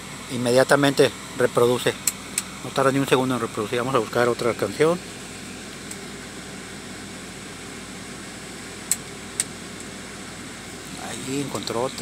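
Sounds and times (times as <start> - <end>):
tape deck mechanical hum and hiss: 0.0 - 12.0.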